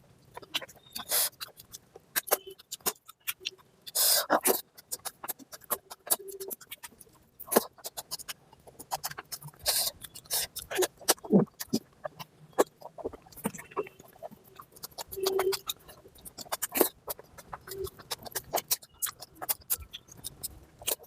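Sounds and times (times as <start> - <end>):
wet chewing and lip smacks: 0.2 - 21.0.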